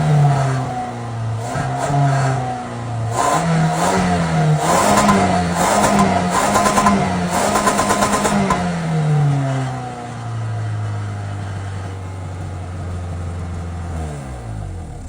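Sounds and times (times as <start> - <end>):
car engine revving down to idle: 0.0 - 15.0.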